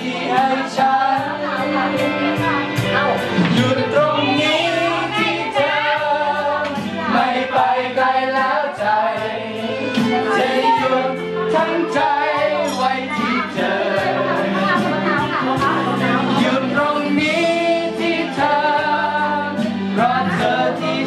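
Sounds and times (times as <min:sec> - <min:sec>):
backing track with beat: 0:00.0 - 0:21.0
karaoke singing: 0:00.0 - 0:21.0.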